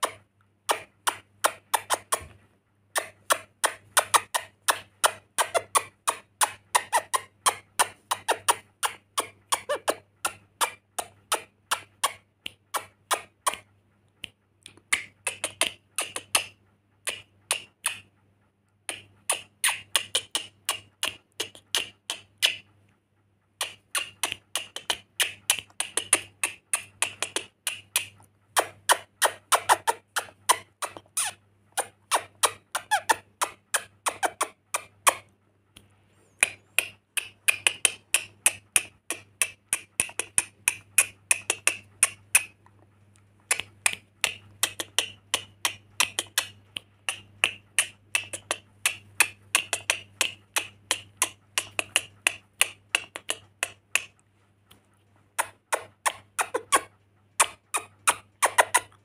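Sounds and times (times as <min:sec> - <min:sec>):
parrot chattering clicking chirps: 0:00.0 - 0:02.3, 0:02.9 - 0:18.1, 0:18.8 - 0:22.9, 0:23.5 - 0:35.3, 0:36.3 - 0:42.7, 0:43.5 - 0:54.2, 0:55.4 - 0:59.0
faint low hum: 0:00.0 - 0:59.0.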